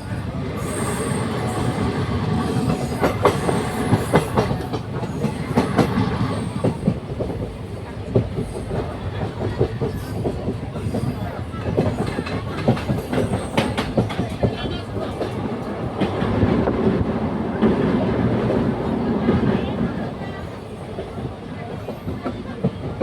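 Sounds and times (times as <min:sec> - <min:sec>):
train wheels clattering over rails: 0:00.0 - 0:23.0.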